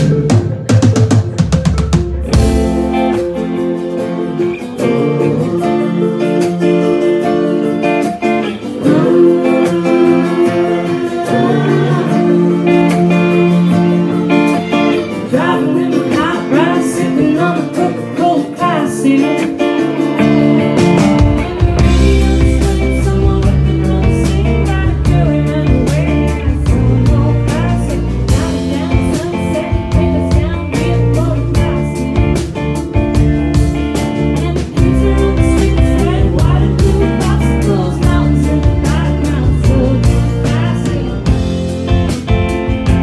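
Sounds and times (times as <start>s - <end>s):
electric guitar: 0.0s - 43.0s
woman singing: 2.2s - 43.0s.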